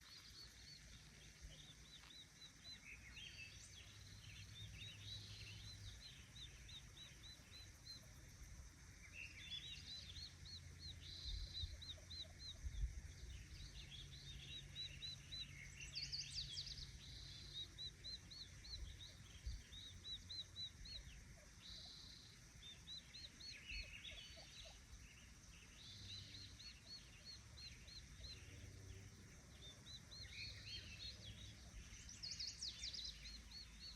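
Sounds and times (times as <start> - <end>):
faint low hum: 0.0 - 33.9
songbirds chirping and trilling: 0.0 - 33.9.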